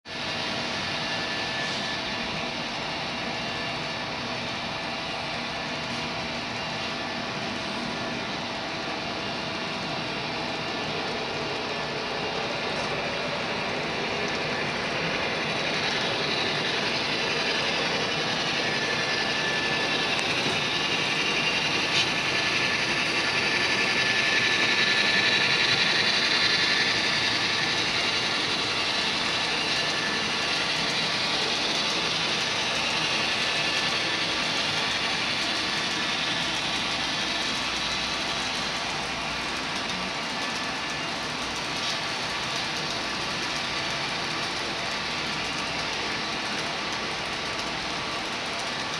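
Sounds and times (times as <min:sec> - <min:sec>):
model train wheels clicking on rails: 0:00.1 - 0:48.9.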